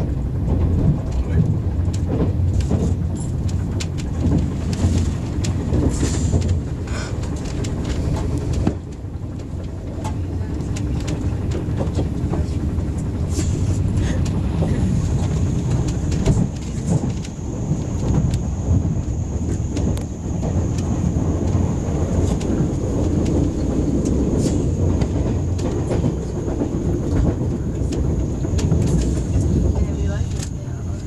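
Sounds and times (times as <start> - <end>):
train running gear rumble: 0.0 - 31.0.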